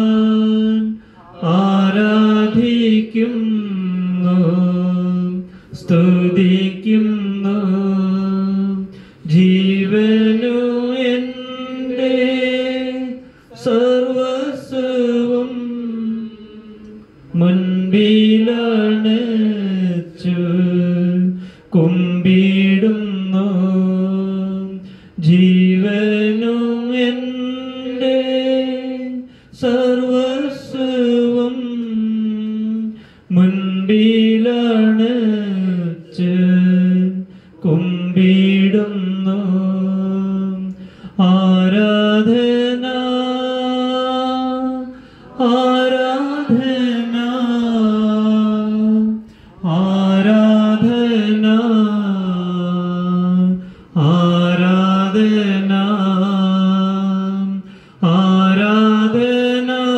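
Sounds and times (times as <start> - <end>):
person singing a chant: 0.0 - 59.9.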